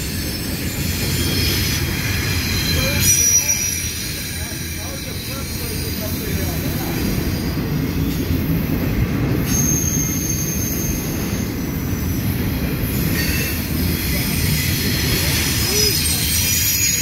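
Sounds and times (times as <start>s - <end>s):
freight train wheels rumbling on track: 0.0s - 17.0s.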